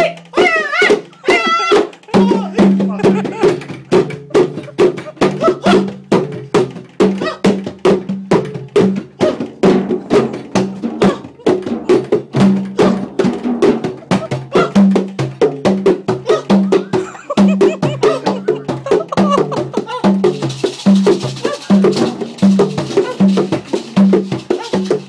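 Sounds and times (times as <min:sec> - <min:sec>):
fast drumming: 0:00.0 - 0:25.0.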